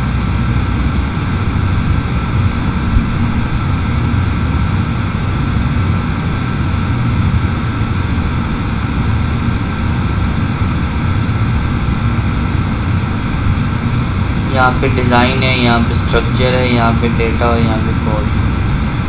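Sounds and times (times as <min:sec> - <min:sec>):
faint whines: 0:00.0 - 0:19.0
loud mechanical drone: 0:00.0 - 0:19.0.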